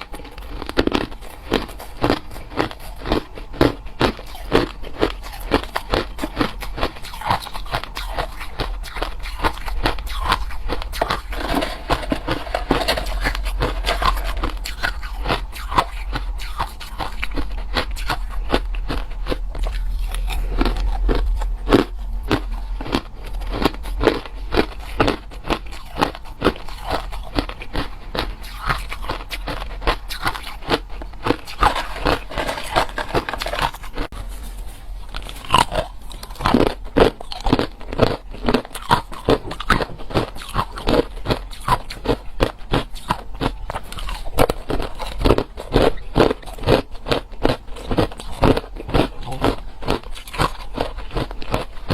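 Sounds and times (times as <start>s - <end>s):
ice being chewed: 0.0s - 51.9s
steady low hum: 0.0s - 51.9s.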